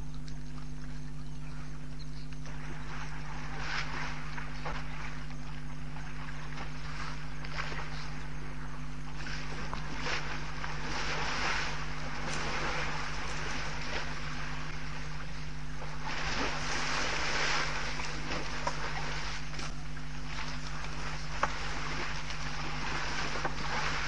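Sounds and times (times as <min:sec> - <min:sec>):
low electrical hum: 0:00.0 - 0:24.0
water splashing and sloshing: 0:00.0 - 0:24.0.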